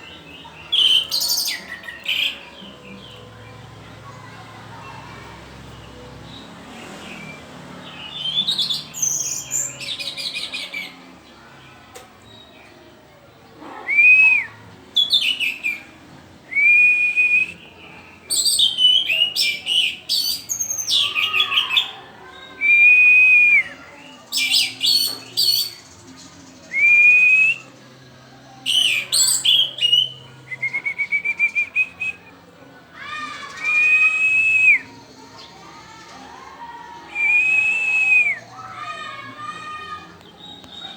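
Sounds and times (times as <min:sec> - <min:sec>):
thrush singing: 0:00.0 - 0:11.9, 0:13.9 - 0:40.9.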